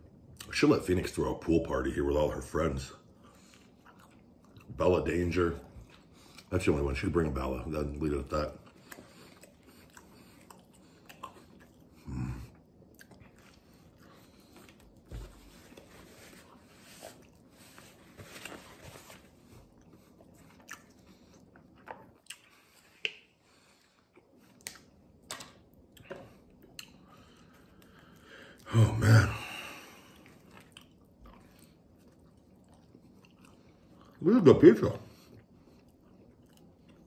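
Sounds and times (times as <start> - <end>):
man chewing pizza: 0.0 - 37.0.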